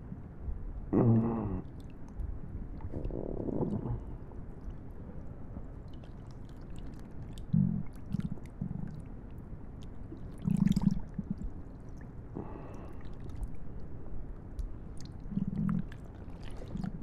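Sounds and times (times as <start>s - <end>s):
stomach gurgling and rumbling: 0.0s - 13.8s, 14.5s - 17.0s.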